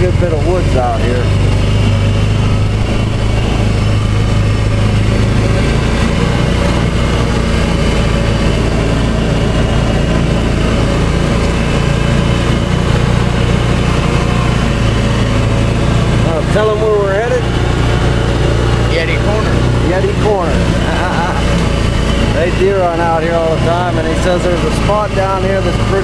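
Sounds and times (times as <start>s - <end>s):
off-road vehicle engine running: 0.0s - 26.0s.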